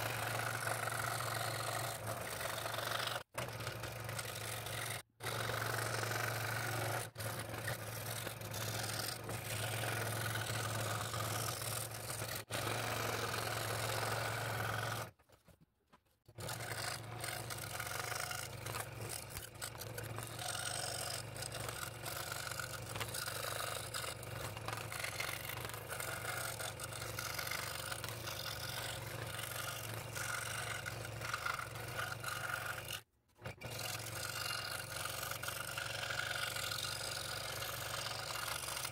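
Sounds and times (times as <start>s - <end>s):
scroll saw cutting wood: 0.0s - 15.6s, 16.2s - 38.9s.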